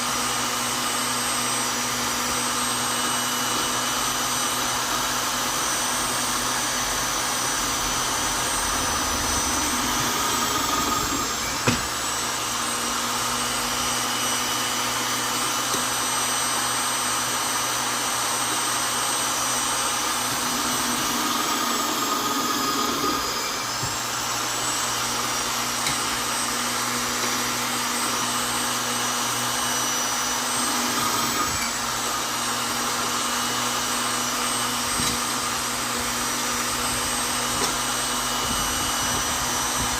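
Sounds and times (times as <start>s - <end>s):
electric drill motor whine: 0.0s - 39.9s.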